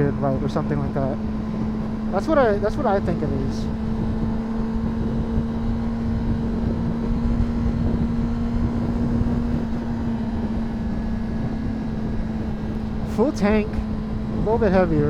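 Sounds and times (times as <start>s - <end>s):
motorcycle engine cruising: 0.0s - 15.0s
wind noise on microphone: 0.0s - 15.0s.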